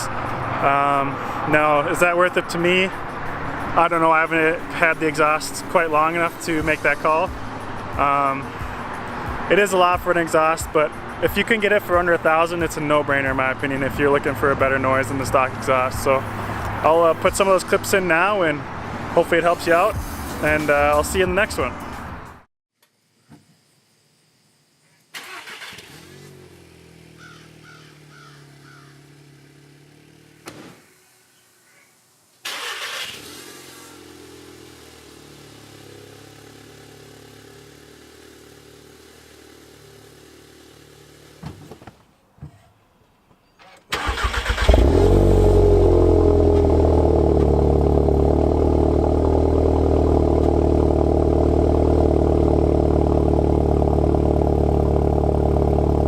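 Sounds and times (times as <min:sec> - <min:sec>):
car engine starting and idling: 0:00.0 - 0:21.5, 0:25.1 - 0:31.2, 0:32.4 - 0:41.8, 0:43.6 - 0:56.0.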